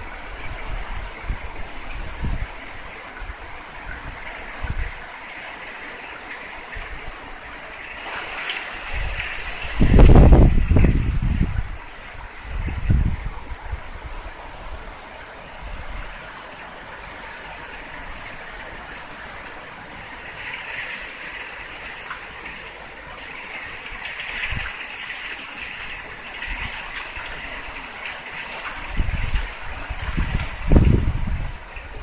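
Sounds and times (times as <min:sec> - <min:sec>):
heavy rain and wind rushing: 0:00.0 - 0:32.0
wind buffeting microphone: 0:00.0 - 0:32.0.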